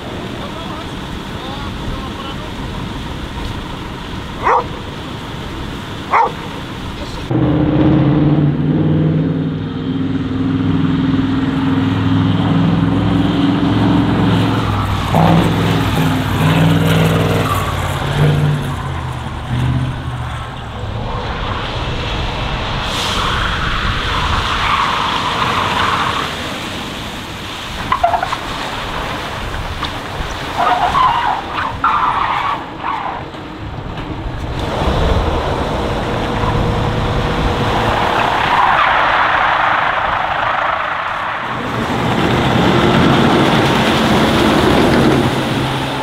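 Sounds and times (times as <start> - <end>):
tyres washing through water: 0.0 - 46.0.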